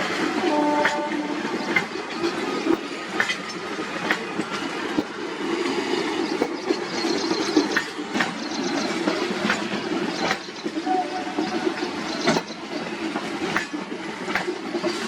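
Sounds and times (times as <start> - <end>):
steady train rumble: 0.0 - 15.0
train wheels clattering over joints: 0.0 - 15.0.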